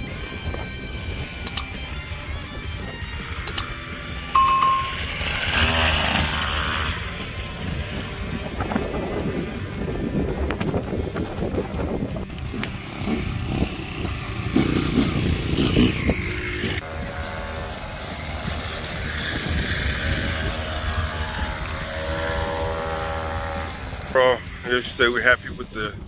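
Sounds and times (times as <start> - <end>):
two-stroke dirt bike engine: 0.0 - 25.8.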